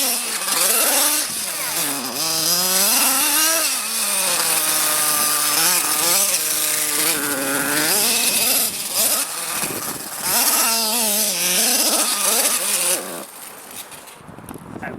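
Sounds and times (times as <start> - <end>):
small nitro engine revving: 0.0 - 14.2.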